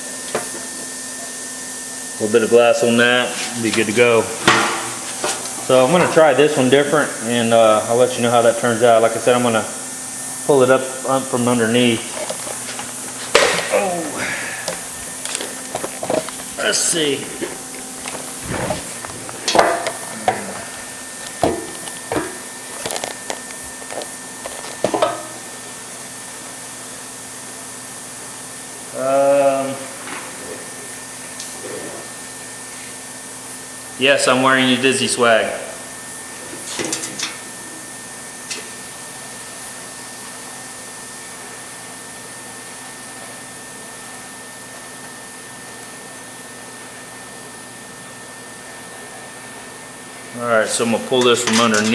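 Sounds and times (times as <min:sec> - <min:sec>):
fan running noise: 0:00.0 - 0:51.9.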